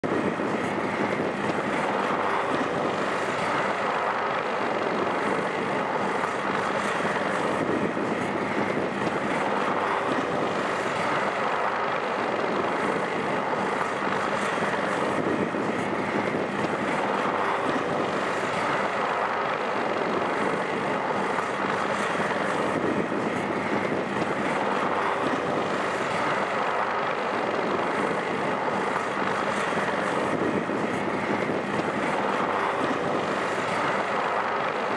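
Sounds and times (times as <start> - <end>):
helicopters running on ground: 0.0 - 34.9.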